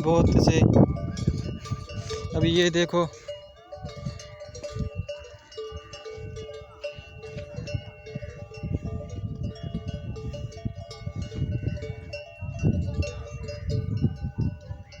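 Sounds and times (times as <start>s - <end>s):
camel bells clanking and ringing: 0.0s - 15.0s.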